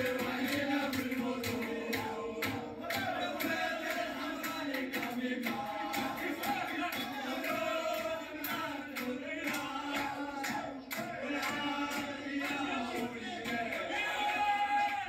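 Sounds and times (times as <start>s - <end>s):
men chanting in unison: 0.0s - 15.0s
rhythmic hand clapping: 0.0s - 15.0s.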